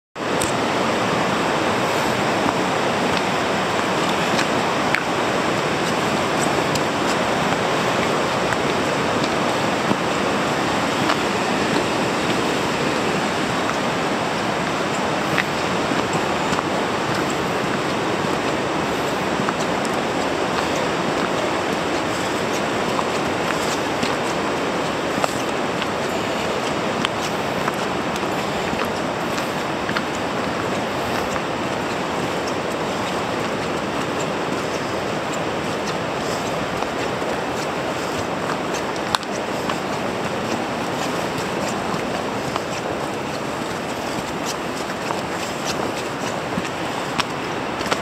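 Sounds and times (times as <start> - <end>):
river rapids rushing: 0.2 - 48.0
footsteps crunching on gravel: 0.4 - 48.0.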